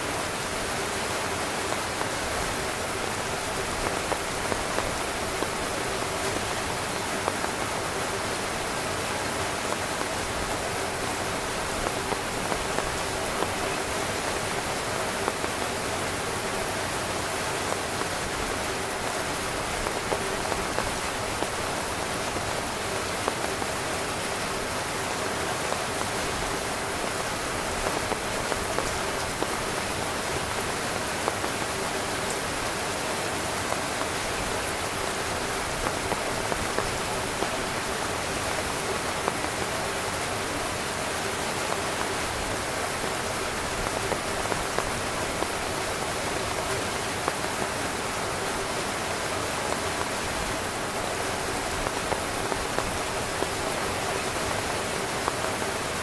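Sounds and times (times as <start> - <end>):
heavy rain drumming on a tent: 0.0 - 56.0.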